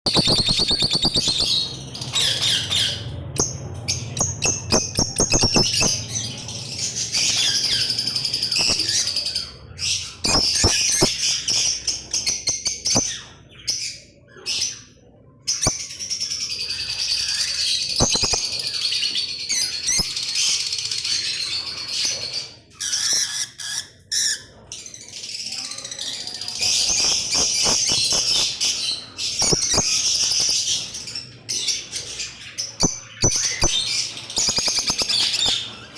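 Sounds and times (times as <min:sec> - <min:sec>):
birds chattering and screeching: 0:00.1 - 0:35.9.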